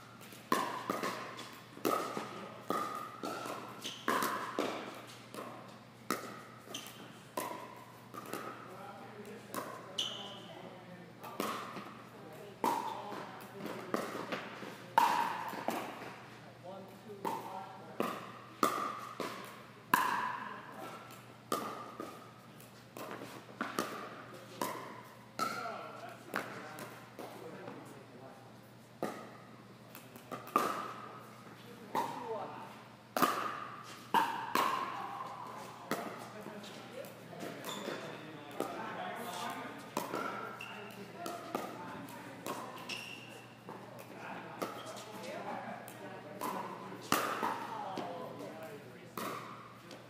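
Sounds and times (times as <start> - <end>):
paddles hitting plastic ball: 0.2 - 9.8, 11.2 - 12.0, 12.6 - 16.2, 17.2 - 27.4, 29.0 - 31.1, 33.2 - 43.0, 45.8 - 50.0
ball bouncing on court: 0.2 - 10.6, 11.2 - 16.2, 17.1 - 27.8, 29.0 - 32.5, 33.2 - 50.0.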